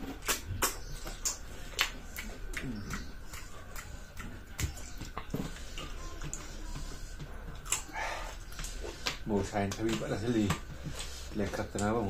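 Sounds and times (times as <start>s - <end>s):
mouth smacks: 0.0s - 12.0s
sharp clicks of eating snails: 0.0s - 12.0s.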